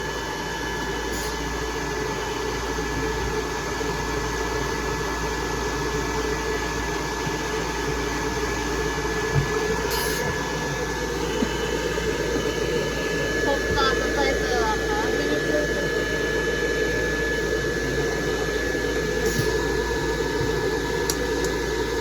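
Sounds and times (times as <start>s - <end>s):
hair dryer blowing with whine: 0.0s - 22.0s.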